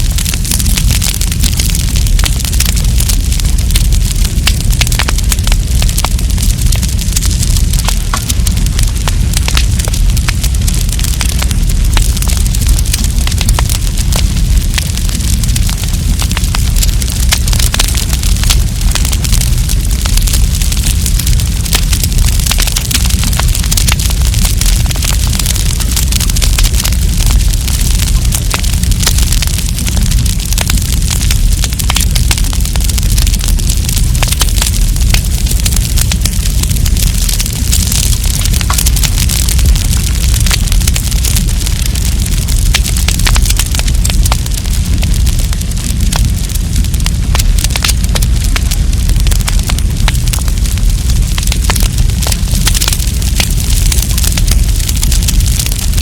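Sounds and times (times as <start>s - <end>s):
campfire crackling and popping: 0.0s - 56.0s
low fire rumble: 0.0s - 56.0s.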